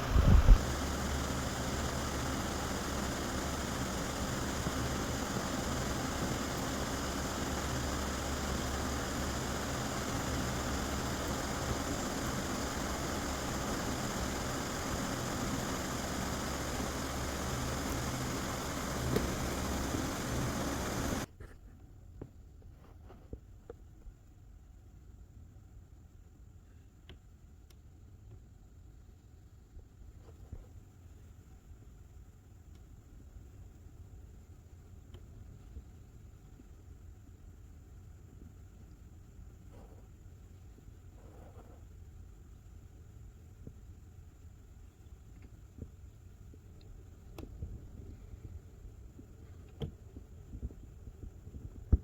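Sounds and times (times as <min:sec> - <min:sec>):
mechanical hum with steady tones: 0:00.0 - 0:52.0.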